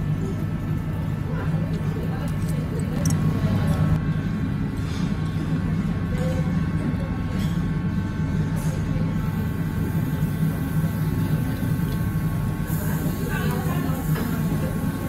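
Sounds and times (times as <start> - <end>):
ventilation fans humming: 0.0 - 15.0.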